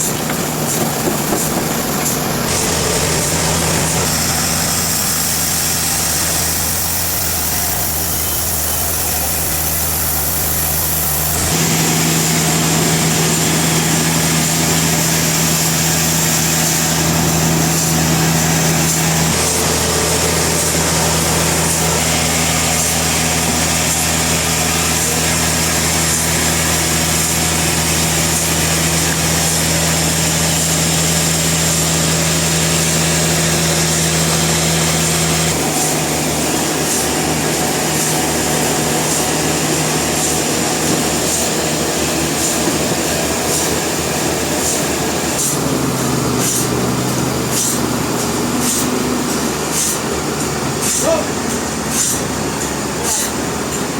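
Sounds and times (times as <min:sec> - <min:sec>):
sawmill machinery droning: 0:00.0 - 0:53.9.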